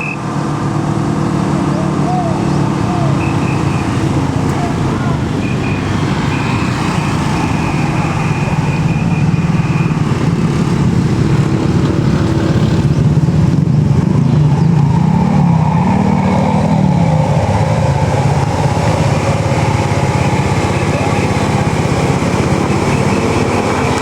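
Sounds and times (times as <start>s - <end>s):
vehicle engines climbing uphill: 0.0s - 24.0s.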